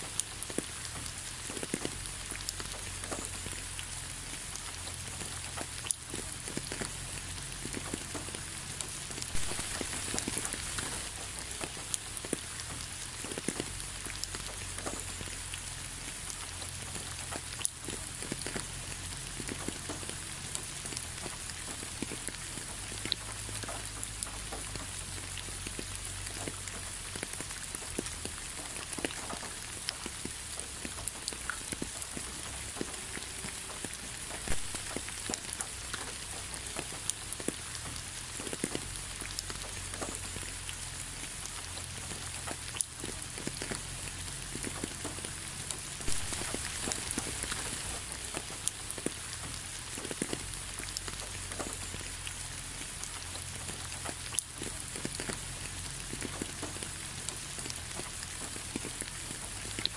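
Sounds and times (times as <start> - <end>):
raindrop impacts: 0.0 - 59.9
steady rain hiss: 0.0 - 59.9.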